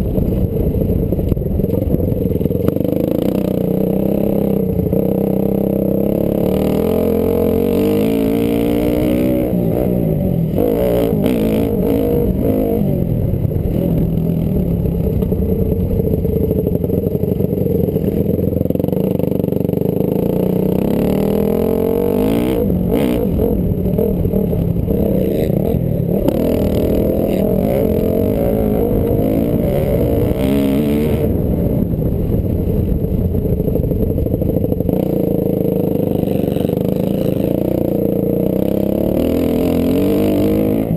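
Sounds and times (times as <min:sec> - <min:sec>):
motocross engine revving: 0:02.7 - 0:14.9, 0:17.5 - 0:32.9, 0:34.4 - 0:40.9.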